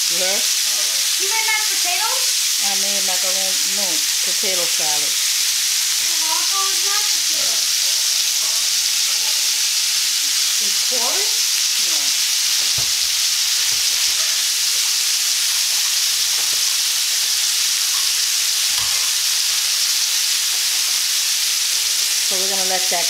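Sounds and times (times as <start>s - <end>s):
meat sizzling in frying pan: 0.0s - 23.0s.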